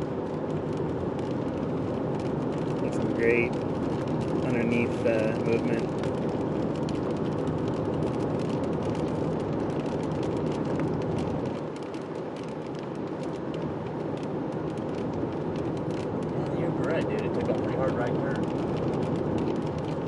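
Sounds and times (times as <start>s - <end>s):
raindrops ticking on windshield: 0.0s - 20.0s
vehicle cabin noise: 0.0s - 20.0s.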